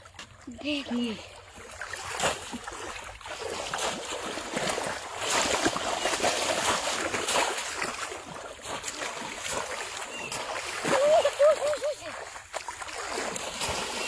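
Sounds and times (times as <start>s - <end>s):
shallow water splashing: 0.0s - 14.0s.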